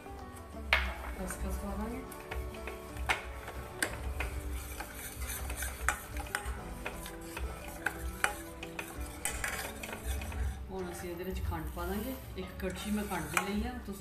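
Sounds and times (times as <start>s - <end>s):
ladle scraping steel pan: 0.0s - 14.0s.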